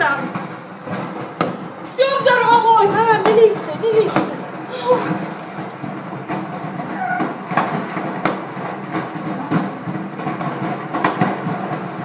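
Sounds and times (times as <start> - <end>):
fire popping and cracking: 0.0 - 12.0
fire roaring: 0.0 - 12.0.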